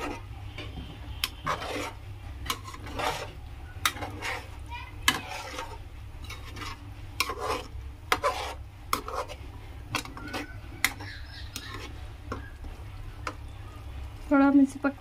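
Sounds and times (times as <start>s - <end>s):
ladle scraping metal pan: 0.0s - 12.4s.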